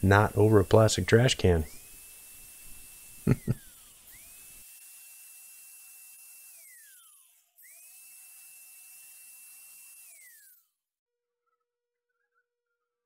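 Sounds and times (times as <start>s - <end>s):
angle grinder whining: 0.0s - 10.7s.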